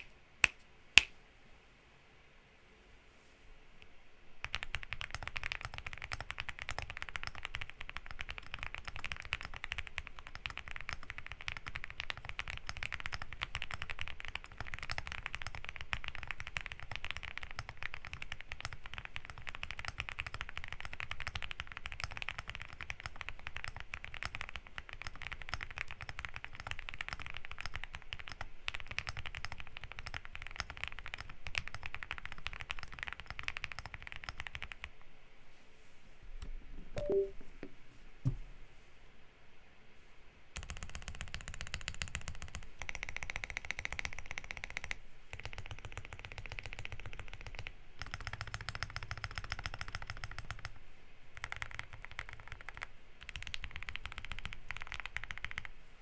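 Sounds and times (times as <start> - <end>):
mechanical keyboard typing: 4.4 - 34.9, 40.6 - 50.8, 51.4 - 55.8.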